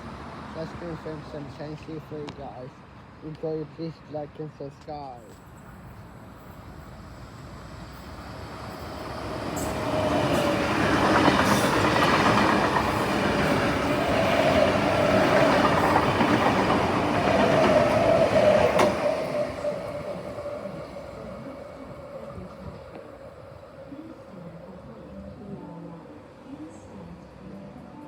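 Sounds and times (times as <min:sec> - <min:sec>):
electric train passing: 0:00.0 - 0:03.0, 0:05.2 - 0:28.0.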